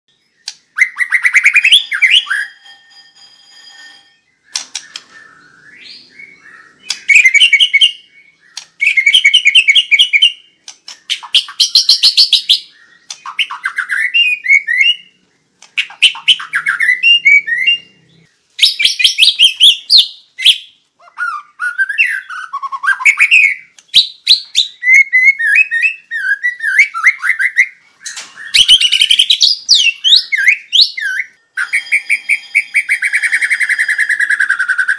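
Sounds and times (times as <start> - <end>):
songbird singing trills and whistles: 0.1 - 2.7, 4.4 - 34.9.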